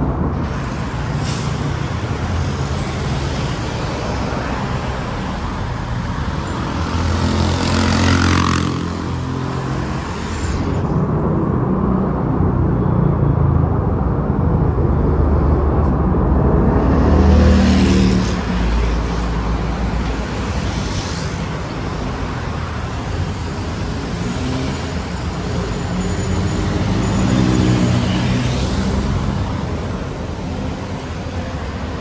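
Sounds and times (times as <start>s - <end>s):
bus diesel engines passing: 0.0s - 32.0s.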